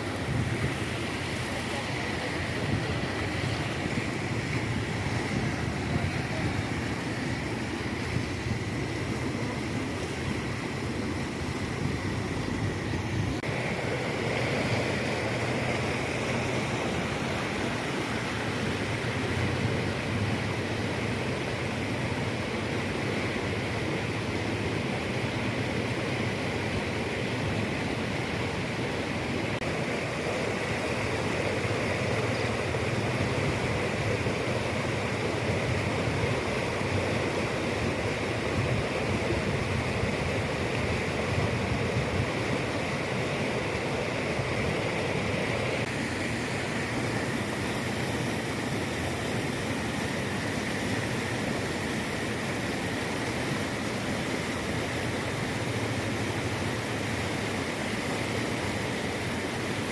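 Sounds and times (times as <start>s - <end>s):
floodwater rushing: 0.0s - 59.9s.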